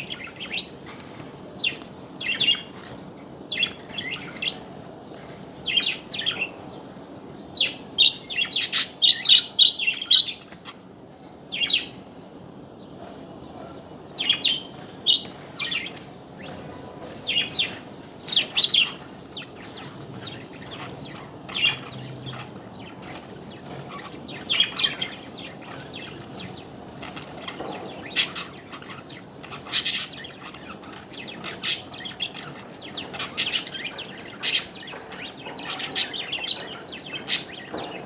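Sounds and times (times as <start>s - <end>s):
low background noise: 0.0s - 38.0s
small birds chirping: 0.0s - 38.0s.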